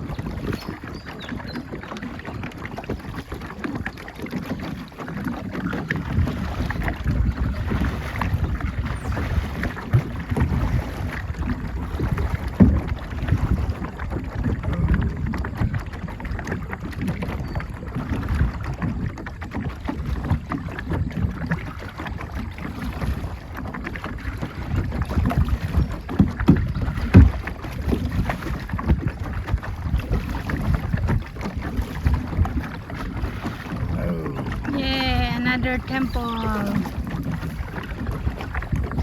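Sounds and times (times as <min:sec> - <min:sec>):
boat under way: 0:00.0 - 0:39.0
wind buffeting microphone: 0:00.0 - 0:39.0.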